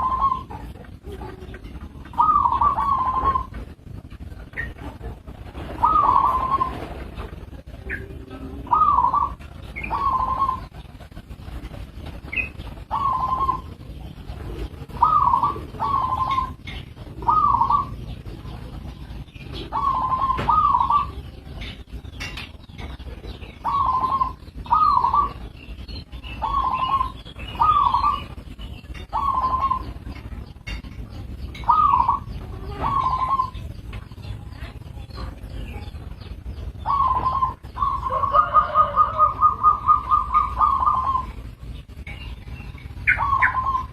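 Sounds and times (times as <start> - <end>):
dove cooing: 0.0 - 43.9
low steady rumble: 0.0 - 43.9
small birds chirping: 0.0 - 43.9.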